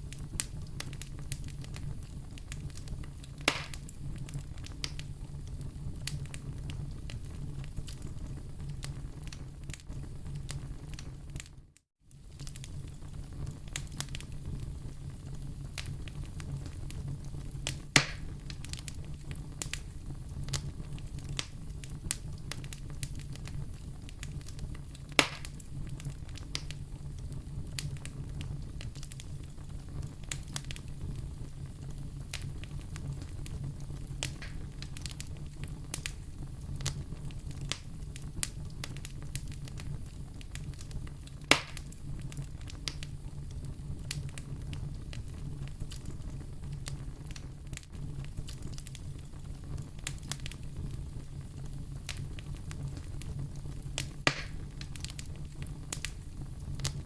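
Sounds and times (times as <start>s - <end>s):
sharp fire pops: 0.0s - 11.5s, 12.1s - 57.0s
low fire rumble: 0.0s - 57.0s
wood fire crackling: 0.0s - 57.0s.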